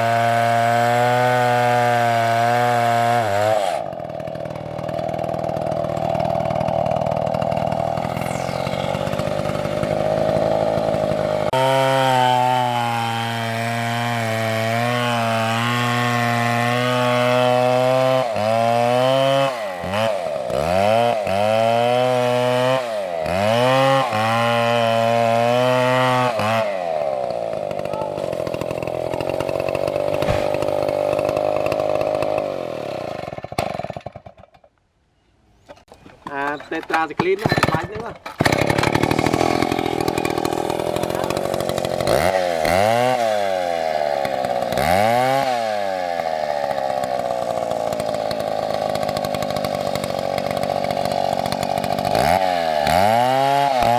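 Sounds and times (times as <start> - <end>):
chainsaw revving and idling: 0.0 - 34.7, 37.4 - 53.9.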